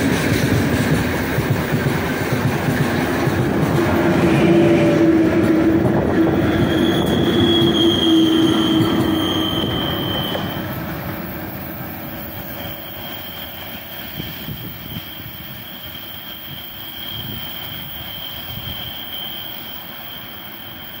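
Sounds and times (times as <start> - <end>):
freight train rumble and wheel noise: 0.0 - 21.0.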